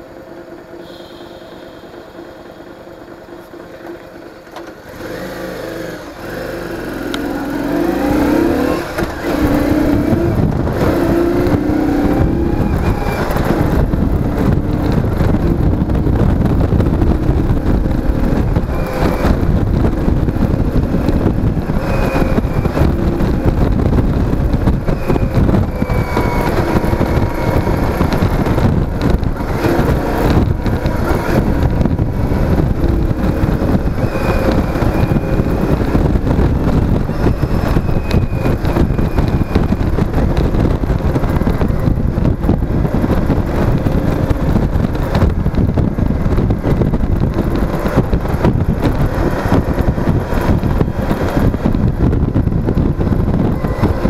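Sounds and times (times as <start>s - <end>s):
faint motorcycle engine: 0.0s - 54.0s
road noise: 0.0s - 54.0s
wind rushing over microphone: 4.8s - 54.0s.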